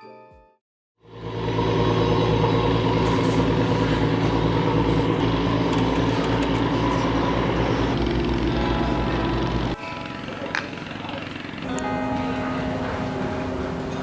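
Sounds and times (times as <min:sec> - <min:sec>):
motor engine droning: 0:01.0 - 0:14.0.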